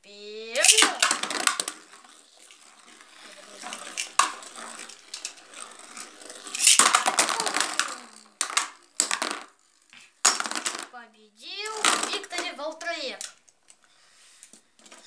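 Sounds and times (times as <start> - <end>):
spinning tops whirring and scraping: 0.4 - 10.9, 11.5 - 13.4
spinning top bursting apart clatter: 0.5 - 11.0, 11.6 - 13.5.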